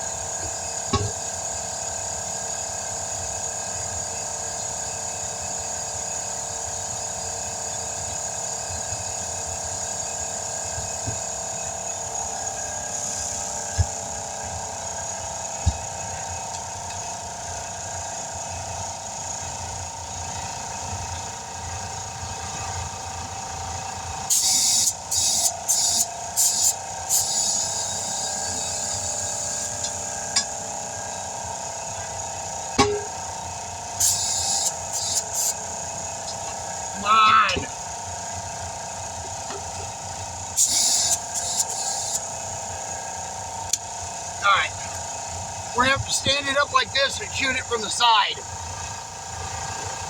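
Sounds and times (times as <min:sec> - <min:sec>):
steady machine hum: 0:00.0 - 0:01.7, 0:06.8 - 0:50.0.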